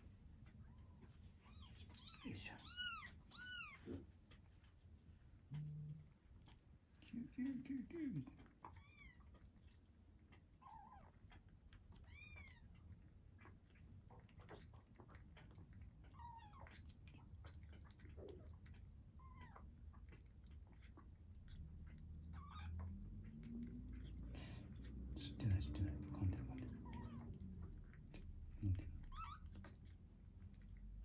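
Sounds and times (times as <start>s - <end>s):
kitten suckling from a bottle: 0.0s - 31.0s.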